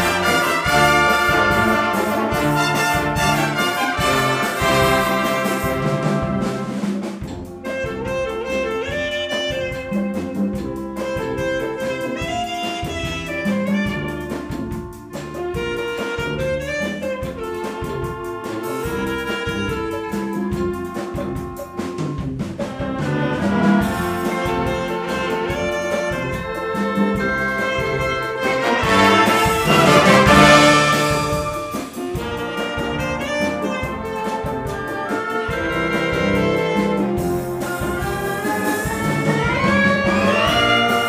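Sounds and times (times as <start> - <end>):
wind band playing: 0.0 - 41.0.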